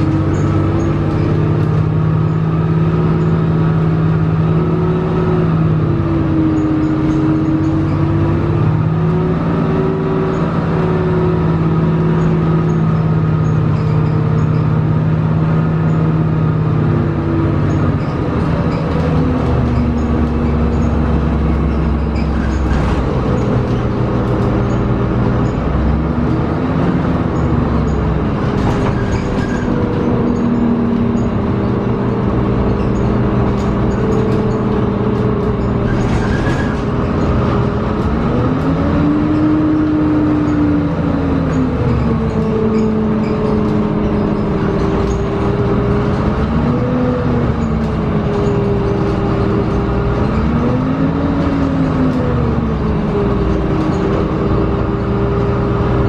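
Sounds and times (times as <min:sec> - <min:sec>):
bus engine humming: 0:00.0 - 0:56.0
drivetrain whine: 0:00.0 - 0:56.0.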